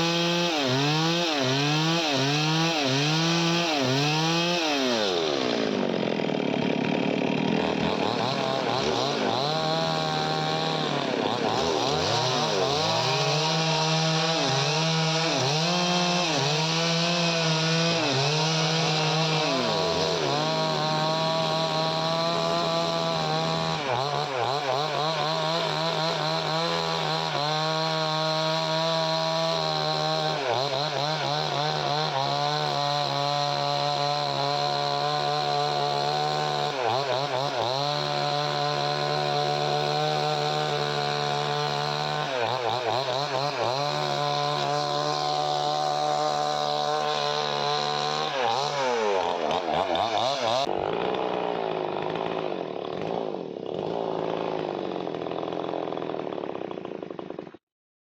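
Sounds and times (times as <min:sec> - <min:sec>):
chainsaw cutting wood: 0:00.0 - 0:57.6.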